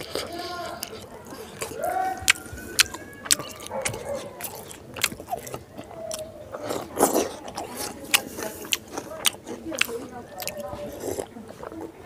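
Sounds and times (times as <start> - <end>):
man chewing with lip-smacks: 0.0 - 12.0.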